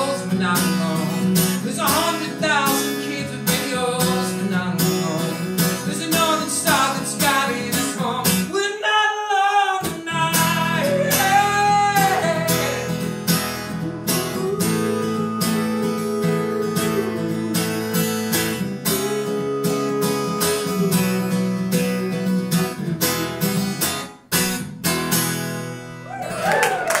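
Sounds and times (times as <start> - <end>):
acoustic guitar strumming: 0.0 - 26.1.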